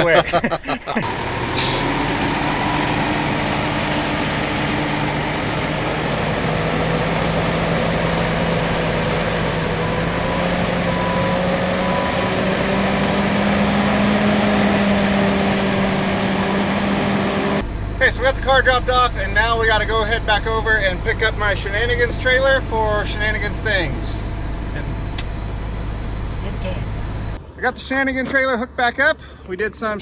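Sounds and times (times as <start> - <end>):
diesel truck engine: 0.0 - 27.7.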